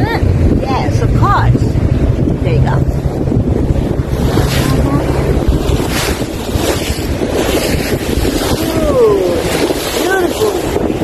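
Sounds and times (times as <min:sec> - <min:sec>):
low engine hum: 0:00.0 - 0:11.0
wake water rushing: 0:00.0 - 0:11.0
wind buffeting microphone: 0:00.0 - 0:11.0.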